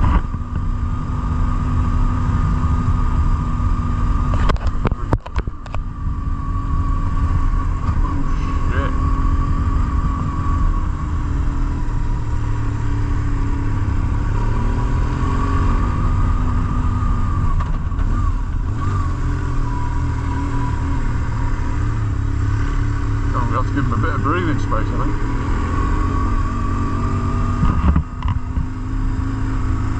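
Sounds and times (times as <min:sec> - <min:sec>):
motorcycle engine rumbling: 0:00.0 - 0:29.9
wind and road noise: 0:00.0 - 0:29.9.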